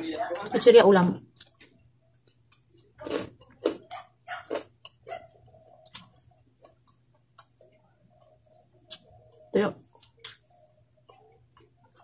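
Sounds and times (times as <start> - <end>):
chewing crunchy chips: 1.2 - 12.0.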